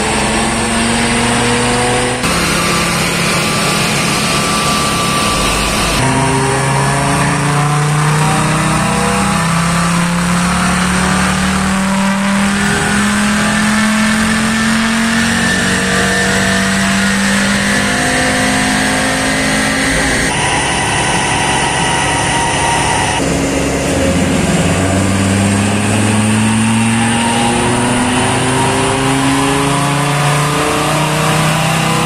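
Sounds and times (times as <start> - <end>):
car engine revving on dynamometer: 0.0 - 32.0.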